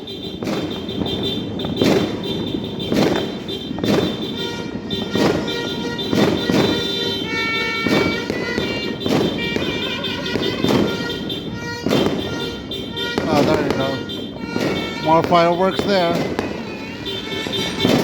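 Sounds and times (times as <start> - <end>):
fireworks going off: 0.0 - 18.0.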